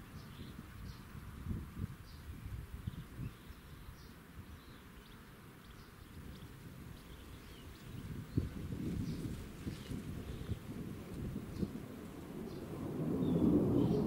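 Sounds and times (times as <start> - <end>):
birds chirping: 0.0 - 1.2, 2.0 - 11.8, 12.4 - 14.0
gusty wind rumble: 0.0 - 4.0, 6.2 - 14.0.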